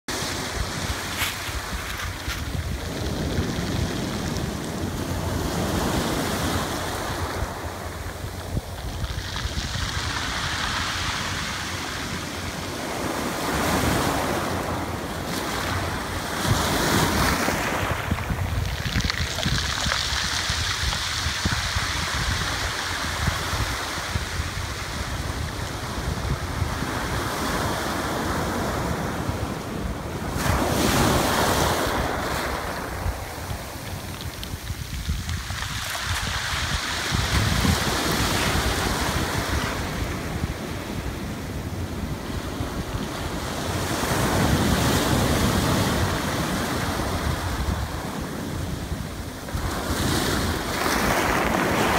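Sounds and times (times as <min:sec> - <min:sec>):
waves washing up pebble beach: 0:00.1 - 0:51.9.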